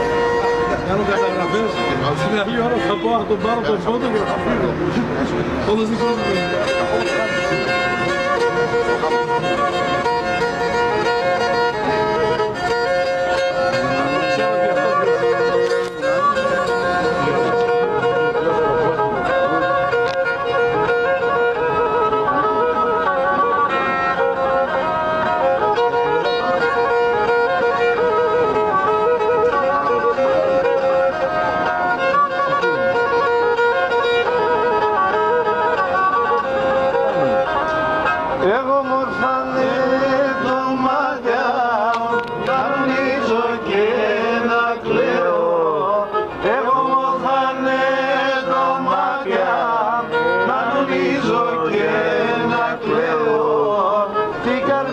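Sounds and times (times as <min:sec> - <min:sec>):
bowed lyra melody: 0:00.0 - 0:54.9.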